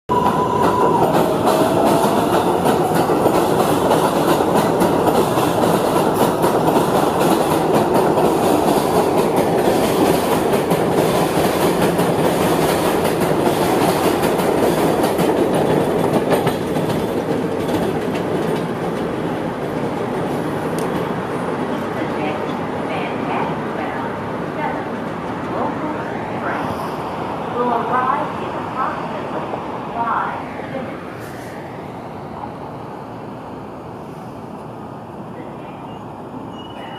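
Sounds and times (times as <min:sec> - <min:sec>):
elevated train rumbling: 0:00.1 - 0:36.9.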